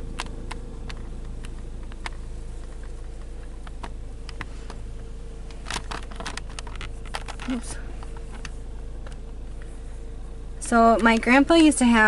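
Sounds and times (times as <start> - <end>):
stones ticking under tyres: 0.0 - 9.7
car road and engine rumble: 0.0 - 12.0.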